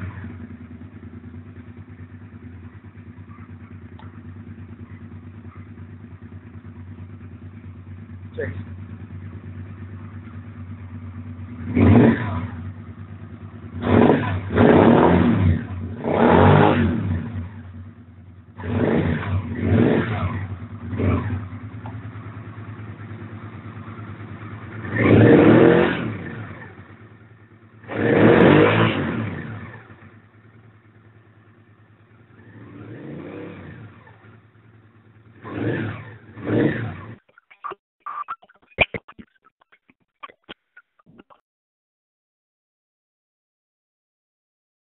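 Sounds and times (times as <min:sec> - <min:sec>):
motorcycle engine idling: 0:00.0 - 0:37.3.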